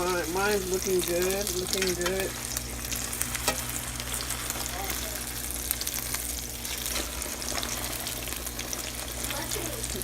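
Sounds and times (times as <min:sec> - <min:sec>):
egg sizzling in hot oil: 0:00.0 - 0:10.0.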